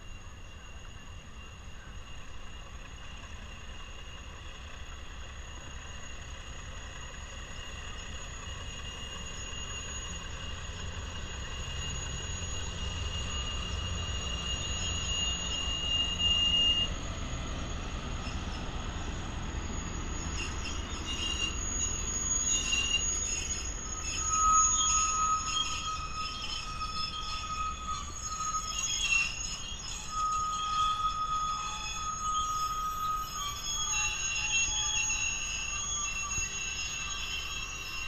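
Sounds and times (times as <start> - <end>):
high wheel squeal: 0.0 - 38.0
locomotive rumble: 0.0 - 38.0
train cars rolling on steel wheels: 0.0 - 38.0.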